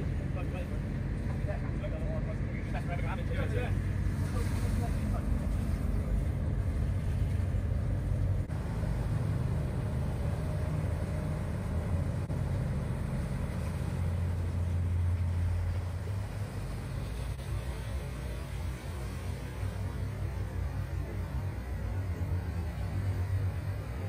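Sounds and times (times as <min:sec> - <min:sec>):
boat engine low rumble: 0:00.0 - 0:24.0.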